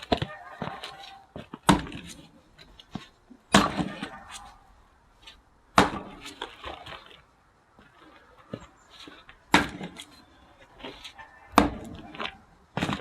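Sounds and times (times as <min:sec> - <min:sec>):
axe splitting firewood: 0:00.0 - 0:04.6, 0:05.3 - 0:07.3, 0:08.1 - 0:13.0.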